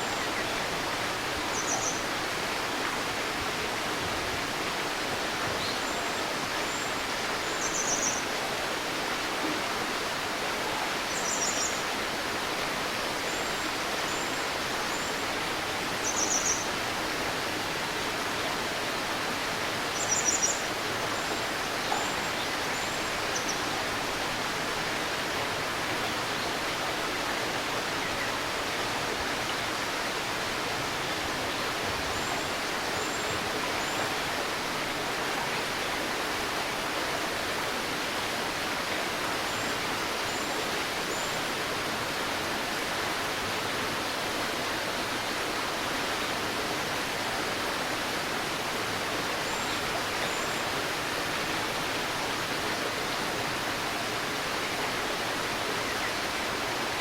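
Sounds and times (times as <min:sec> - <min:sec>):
river babbling: 0:00.0 - 0:57.0.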